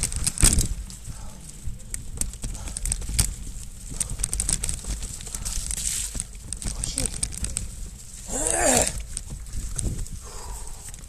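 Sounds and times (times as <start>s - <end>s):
wheels knocking on roots: 0.0s - 10.2s
mountain bike rattling: 0.0s - 11.0s.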